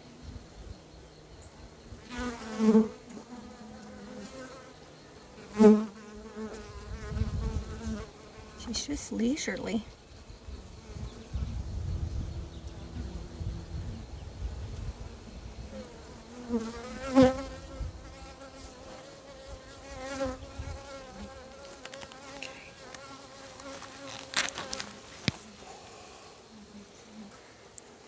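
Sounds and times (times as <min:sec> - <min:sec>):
honey bees buzzing: 0:02.0 - 0:28.0.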